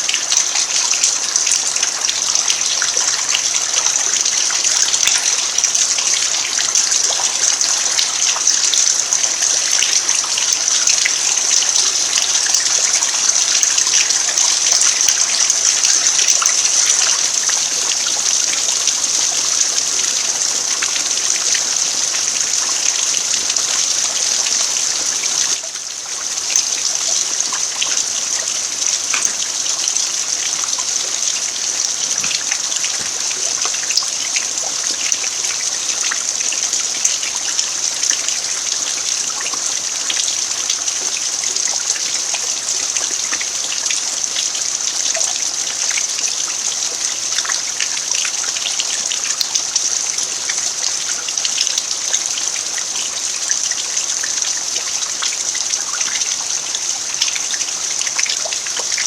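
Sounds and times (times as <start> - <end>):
rain falling on dirt: 0.0 - 59.0.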